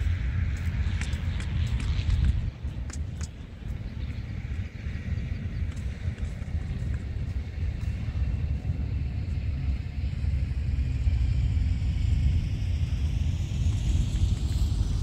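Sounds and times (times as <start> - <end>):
faint rising whine: 0.0 - 15.0
wind buffeting microphone: 0.0 - 15.0.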